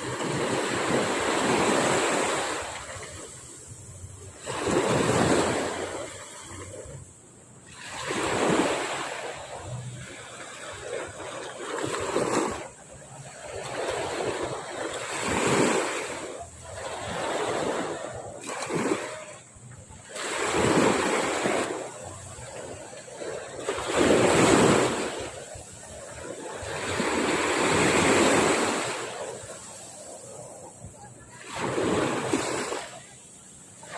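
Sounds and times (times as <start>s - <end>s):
sea waves washing onto beach: 0.0s - 33.9s.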